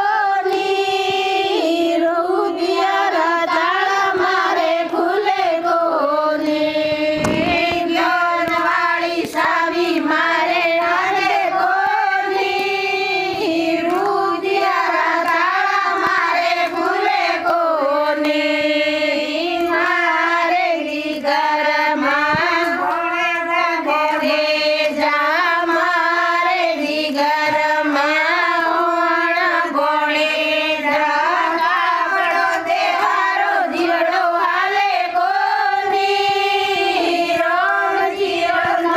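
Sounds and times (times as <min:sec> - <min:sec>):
women singing devotional song: 0:00.0 - 0:38.9.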